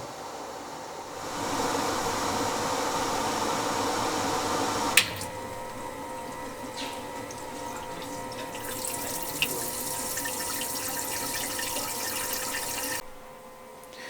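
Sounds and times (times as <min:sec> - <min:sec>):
steady machine hum: 0:00.0 - 0:14.0
water rushing through nozzles: 0:01.0 - 0:13.1.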